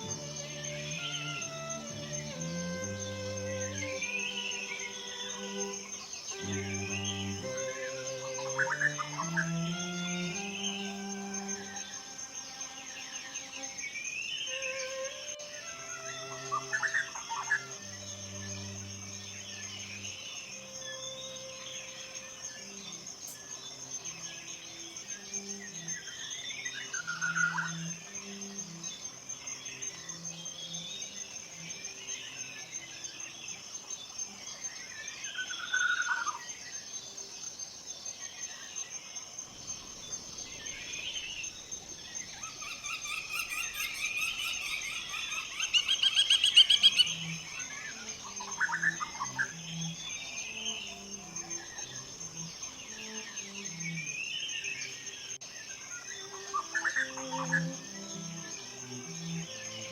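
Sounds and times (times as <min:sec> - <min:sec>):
birds chirping: 0:00.0 - 0:34.2, 0:38.8 - 0:59.9
high insect trill: 0:00.0 - 0:59.9.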